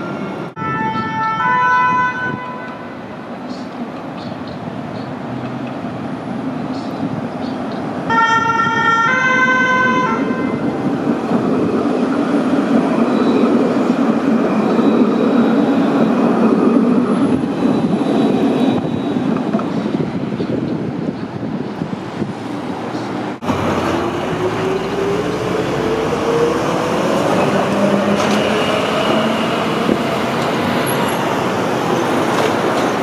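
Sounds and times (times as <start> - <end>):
tram rolling on track: 0.0 - 33.0.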